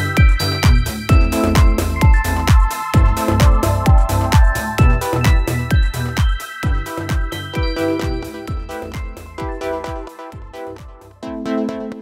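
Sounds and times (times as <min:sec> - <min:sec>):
held synthesizer chords: 0:00.0 - 0:12.0
steady kick drum: 0:00.0 - 0:12.0.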